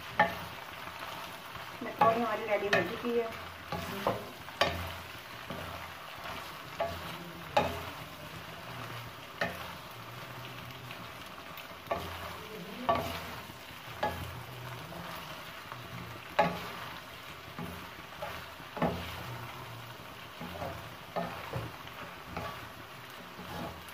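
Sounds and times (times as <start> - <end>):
pan sizzling: 0.0 - 23.9
spatula stirring food in pan: 0.0 - 23.9.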